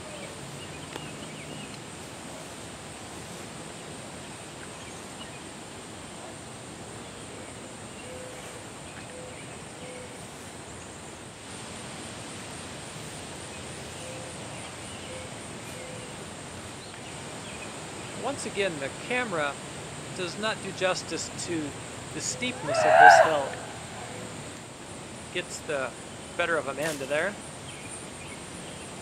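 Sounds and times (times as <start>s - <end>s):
insect drone: 0.0s - 29.0s
steady hiss: 0.0s - 29.0s.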